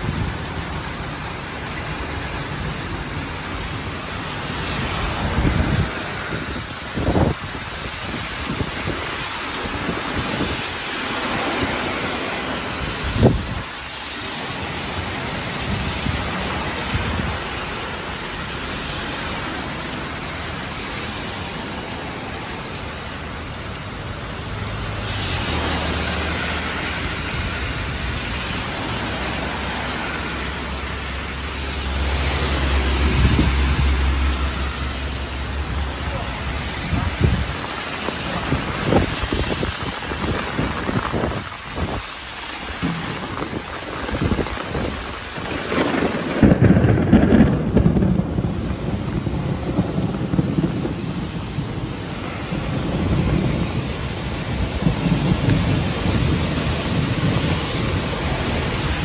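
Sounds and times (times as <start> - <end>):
cars swishing on wet road: 0.0 - 59.0
heavy rain on pavement: 0.0 - 59.0.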